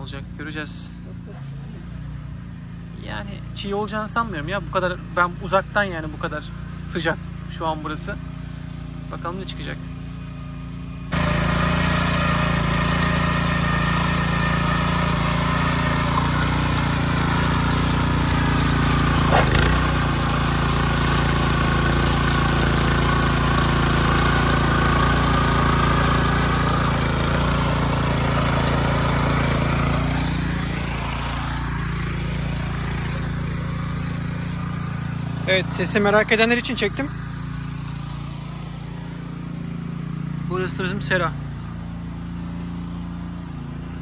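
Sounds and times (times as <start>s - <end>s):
tiller engine running: 0.0s - 44.0s
tines churning soil: 0.0s - 44.0s.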